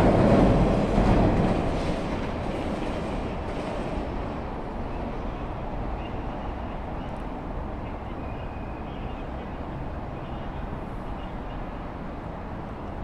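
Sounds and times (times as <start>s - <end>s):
low urban rumble: 0.0s - 13.0s.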